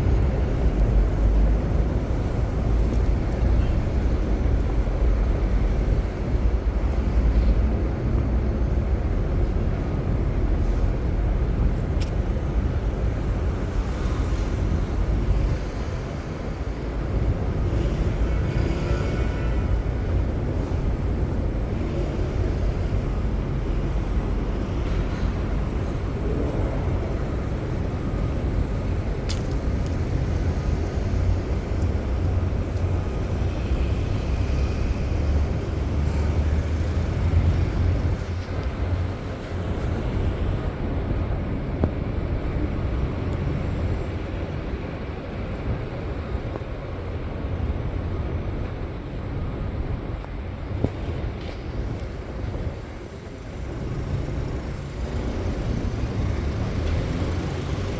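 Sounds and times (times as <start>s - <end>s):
traffic rumble: 0.0s - 57.9s.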